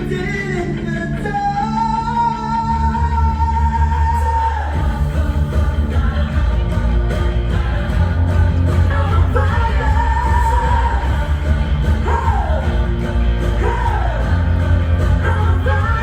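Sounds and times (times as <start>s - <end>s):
heavy bass: 0.0s - 16.0s
pop-rock song: 0.0s - 16.0s.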